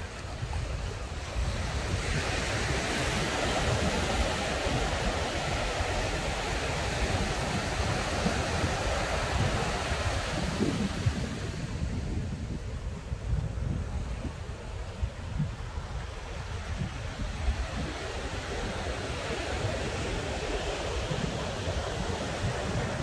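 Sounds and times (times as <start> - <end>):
ocean surf: 0.0 - 23.0
wind buffeting microphone: 0.0 - 23.0.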